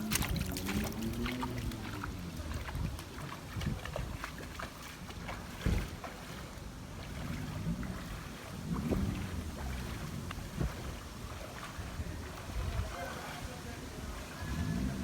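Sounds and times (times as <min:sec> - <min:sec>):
low rumbling wind on microphone: 0:00.0 - 0:15.0.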